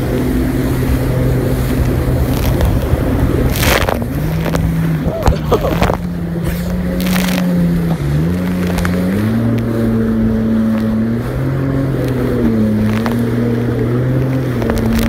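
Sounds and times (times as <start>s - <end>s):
jet ski engine: 0.0s - 15.0s
rushing water: 0.0s - 15.0s
wind on microphone: 0.0s - 15.0s.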